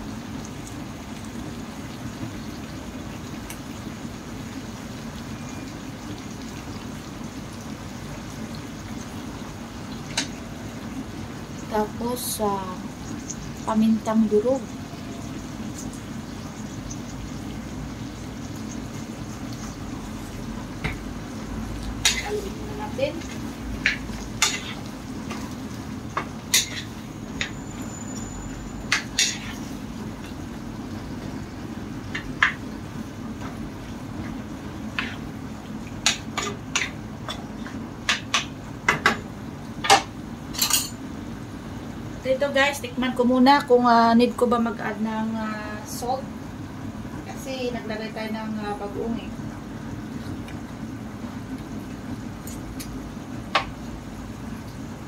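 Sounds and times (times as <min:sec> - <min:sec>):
pot simmering: 0:00.0 - 0:55.0.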